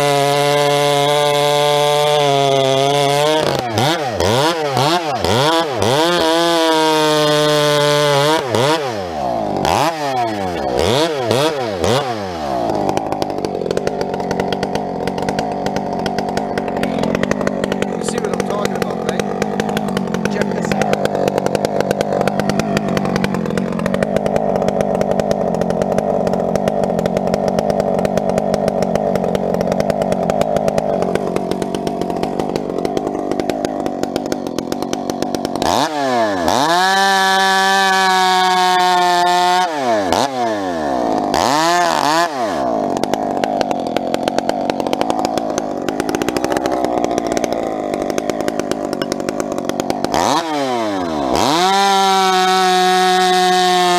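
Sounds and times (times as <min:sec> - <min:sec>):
chainsaw cutting firewood: 0:00.0 - 0:53.9.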